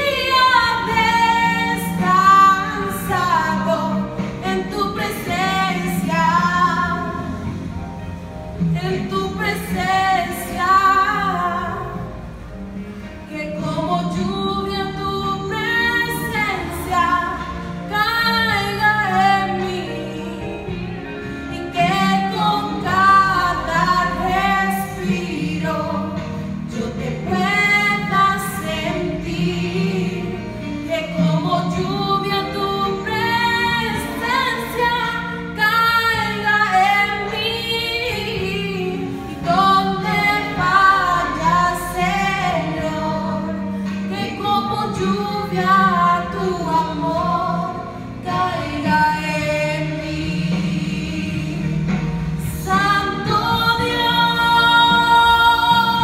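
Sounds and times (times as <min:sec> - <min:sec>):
woman singing: 0:00.0 - 0:07.6, 0:08.7 - 0:12.1, 0:13.3 - 0:56.0
instrumental accompaniment: 0:00.0 - 0:56.0.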